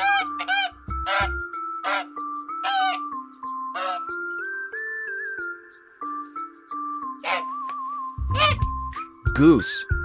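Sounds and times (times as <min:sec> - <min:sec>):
whistle-like melody music: 0:00.0 - 0:10.0.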